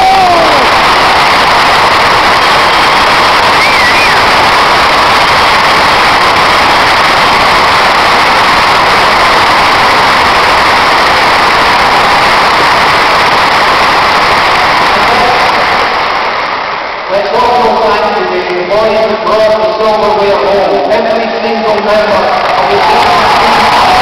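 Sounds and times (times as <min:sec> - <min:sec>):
stadium crowd cheering: 0:00.0 - 0:24.0.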